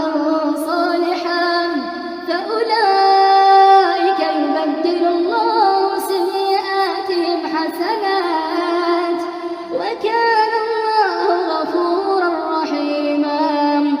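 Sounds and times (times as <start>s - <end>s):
person chanting recitation: 0.0s - 14.0s.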